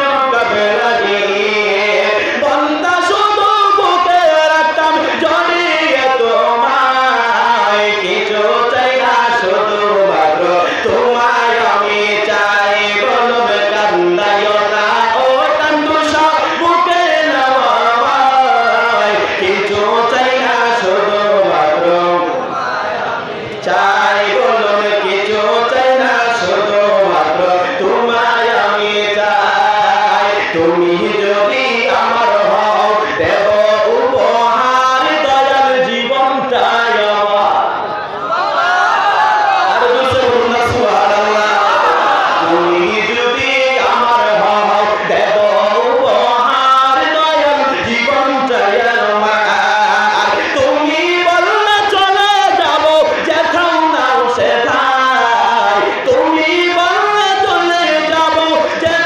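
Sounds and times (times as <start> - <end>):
man chanting melodically: 0.0 - 37.9, 39.6 - 59.0.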